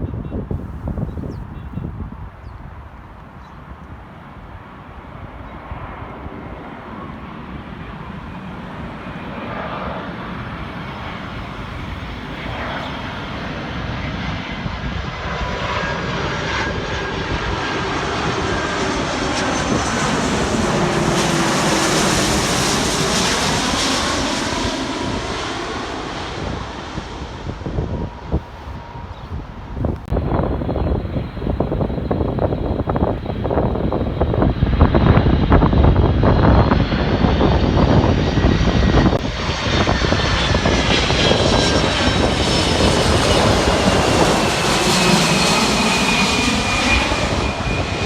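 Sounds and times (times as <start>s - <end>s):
jet airliner passing: 0.1s - 48.0s.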